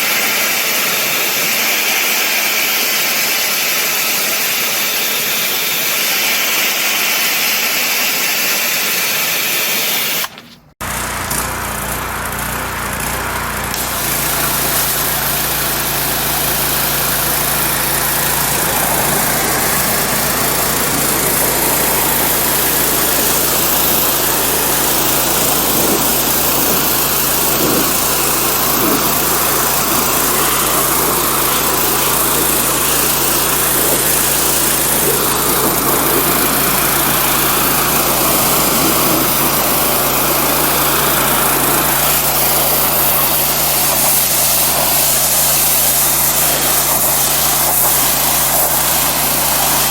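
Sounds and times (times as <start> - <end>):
pressure washer engine hum: 0.0 - 49.9
pressure washer spray hissing: 0.0 - 49.9.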